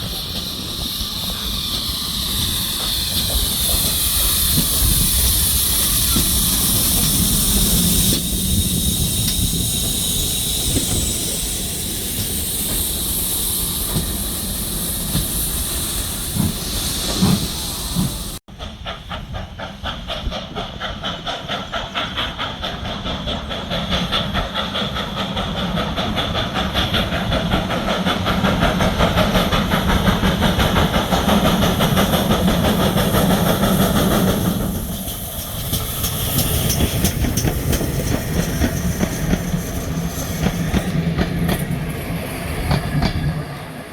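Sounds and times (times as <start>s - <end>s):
steam locomotive hissing: 0.0s - 43.9s
train running with rhythmic beat: 0.0s - 43.9s.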